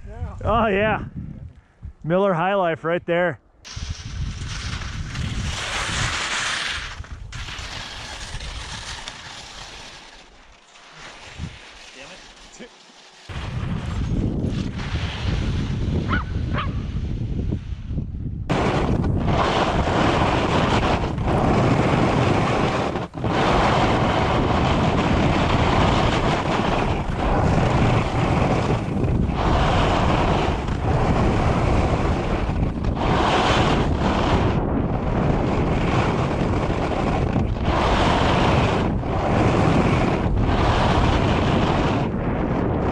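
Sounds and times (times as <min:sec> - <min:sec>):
wind rumbling on microphone: 0:00.0 - 0:02.1, 0:03.6 - 0:10.2, 0:11.1 - 0:12.4, 0:13.3 - 0:42.9
board scraping hiss on snow: 0:03.7 - 0:42.9.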